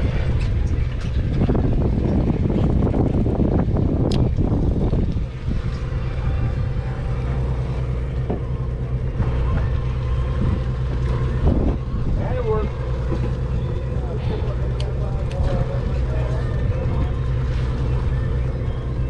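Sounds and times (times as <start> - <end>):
boat engine humming: 0.0 - 19.0
wind rushing over microphone: 0.0 - 19.0.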